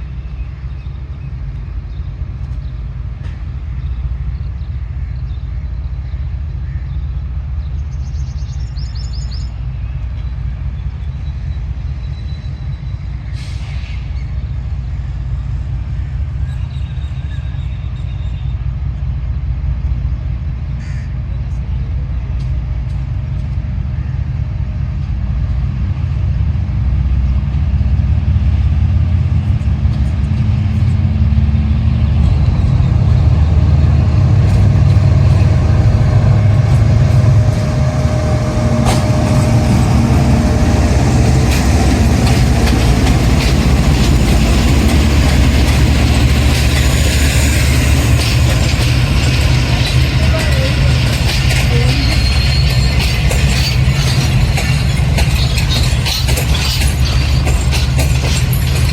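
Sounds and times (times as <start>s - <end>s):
train clicks and clatter: 0.0s - 58.9s
train rumbling: 0.0s - 58.9s.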